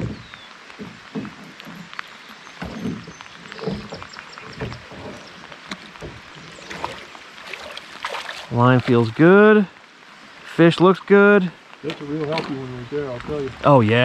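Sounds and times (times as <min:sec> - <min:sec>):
rain on a river: 0:00.0 - 0:14.0.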